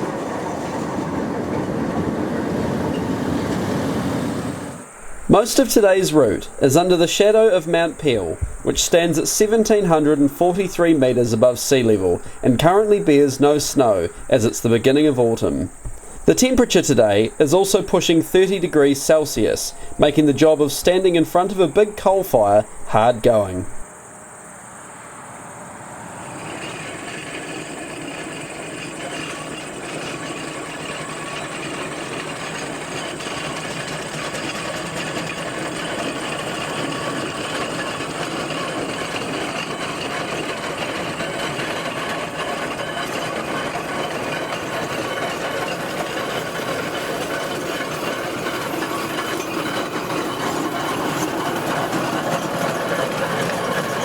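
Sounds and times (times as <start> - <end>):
steam traction engine clatter: 0.0 - 23.8, 26.1 - 54.0.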